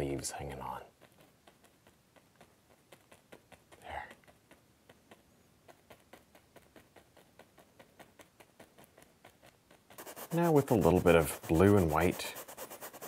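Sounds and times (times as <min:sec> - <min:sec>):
brush bristles tapping on canvas: 0:00.0 - 0:13.0.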